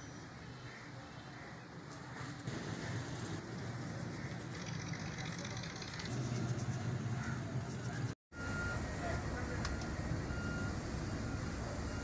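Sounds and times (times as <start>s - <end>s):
vehicle engine humming: 2.2s - 12.0s.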